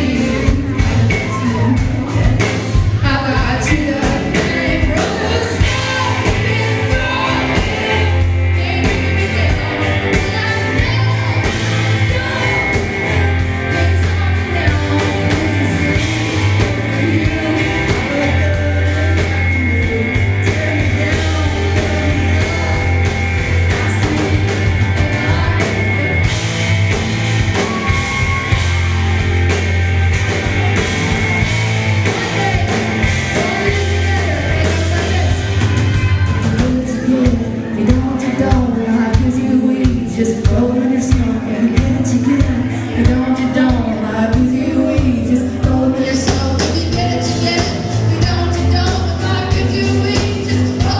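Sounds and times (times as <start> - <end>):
woman singing: 0.0 - 26.4, 32.0 - 50.9
drums: 0.0 - 50.9
electric and acoustic guitars: 0.0 - 50.9
heavy bass line: 0.0 - 50.9.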